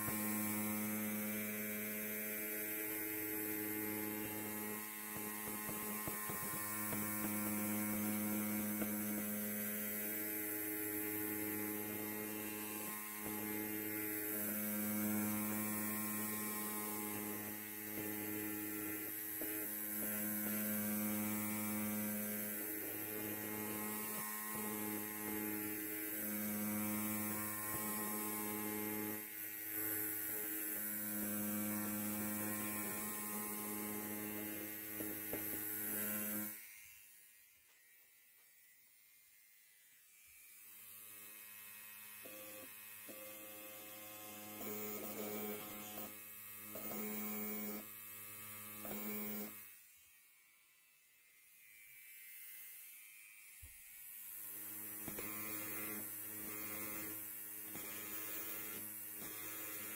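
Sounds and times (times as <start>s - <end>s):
electric hair clipper buzzing: 0.0s - 59.9s.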